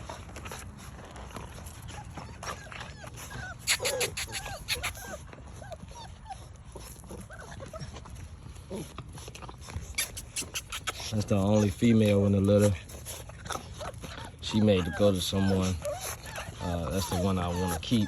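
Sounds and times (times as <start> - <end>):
puppies whimpering and yipping: 0.0 - 18.0.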